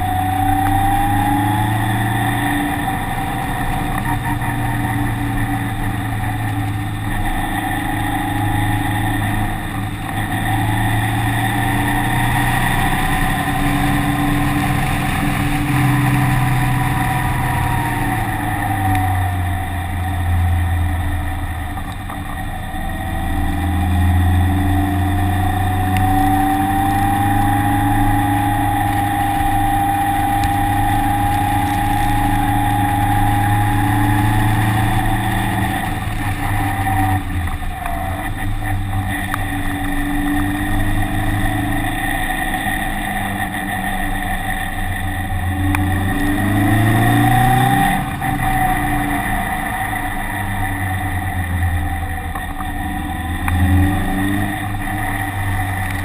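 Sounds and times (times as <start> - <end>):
vehicle engine running hard: 0.0 - 56.0.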